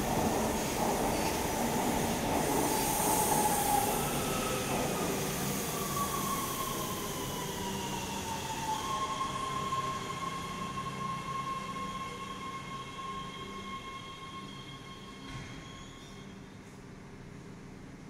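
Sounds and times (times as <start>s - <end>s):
subway train pulling out: 0.0s - 18.0s.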